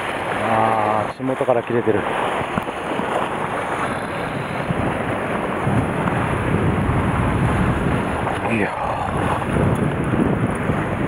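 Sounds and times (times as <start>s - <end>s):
sea surf washing against rocks: 0.0s - 11.0s
wind buffeting microphone: 0.0s - 11.0s.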